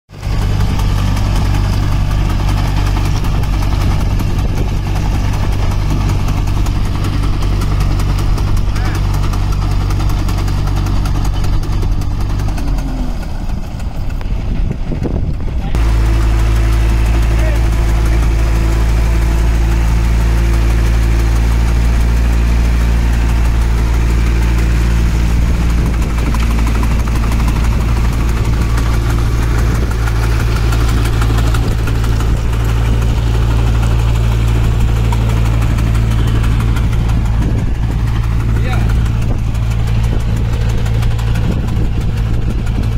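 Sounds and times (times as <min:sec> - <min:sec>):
tractor diesel engine running: 0:00.1 - 0:42.9.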